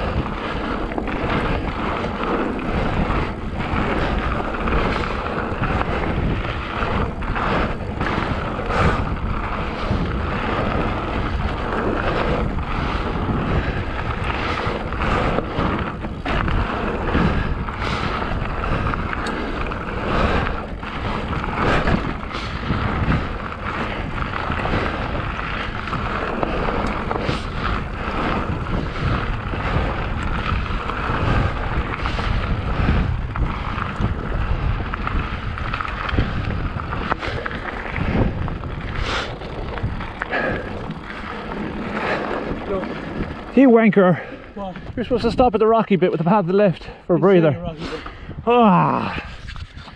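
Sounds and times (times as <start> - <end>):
bike knocks and rattles: 0.0 - 45.0
bike tyres rolling: 0.0 - 49.9
wind buffeting microphone: 0.0 - 49.9.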